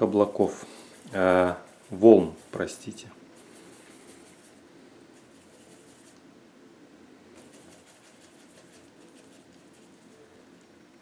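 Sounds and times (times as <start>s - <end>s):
paintbrush strokes on canvas: 0.0s - 6.2s, 7.3s - 10.4s
low room hum: 0.0s - 11.0s.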